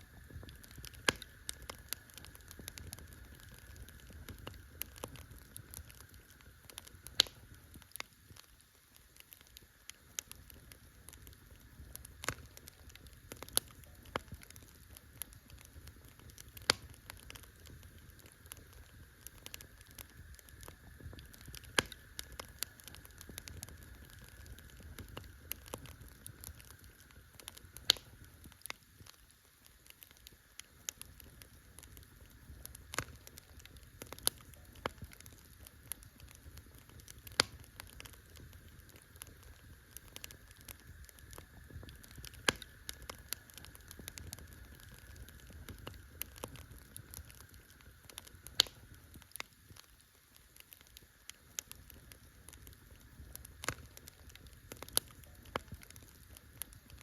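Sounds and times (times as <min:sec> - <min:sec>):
campfire crackling: 0:00.0 - 0:57.0
faint steady hiss: 0:00.0 - 0:57.0.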